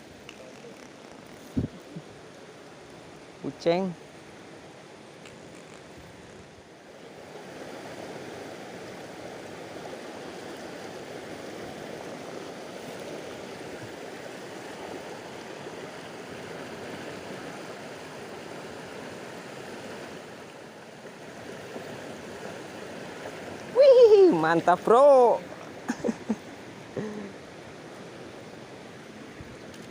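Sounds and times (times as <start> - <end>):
river current rushing: 0.0 - 29.9.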